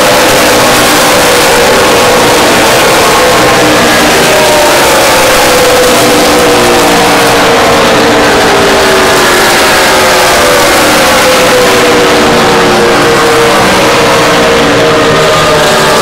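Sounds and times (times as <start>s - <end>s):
race car engines roaring: 0.0s - 16.0s.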